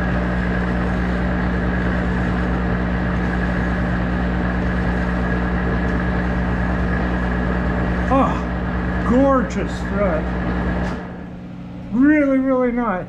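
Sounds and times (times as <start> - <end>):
lathe humming with high whine: 0.0 - 13.0.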